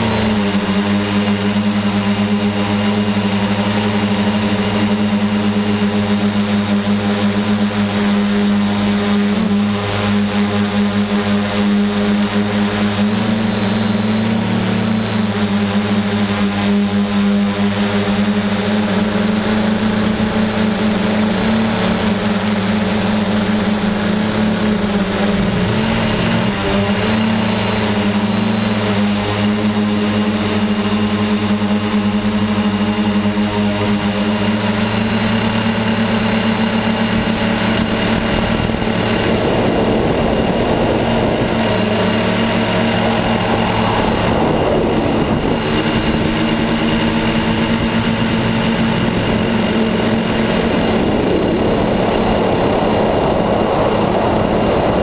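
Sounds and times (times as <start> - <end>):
drone propellers humming: 0.0 - 55.0.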